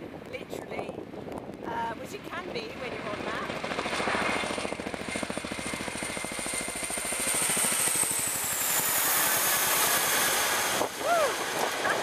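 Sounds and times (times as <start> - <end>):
helicopter rotors beating: 0.4 - 12.0.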